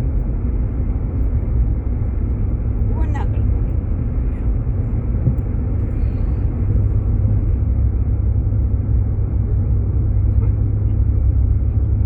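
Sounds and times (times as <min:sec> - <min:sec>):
car driving on snowy road: 0:00.0 - 0:12.0.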